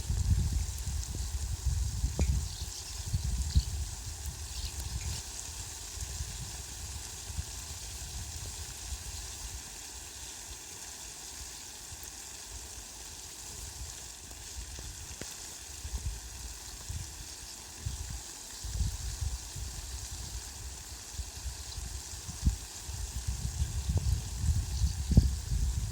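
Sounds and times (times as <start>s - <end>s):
heavy rain on leafy plants: 0.0s - 25.9s.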